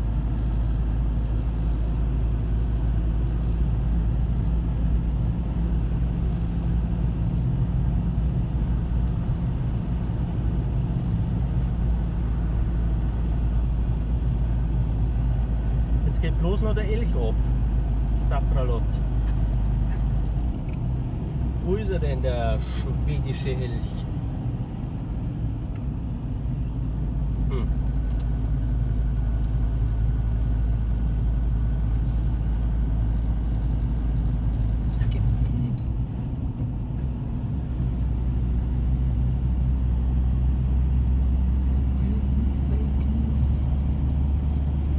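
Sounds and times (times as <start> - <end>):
car driving on gravel: 0.0 - 44.9.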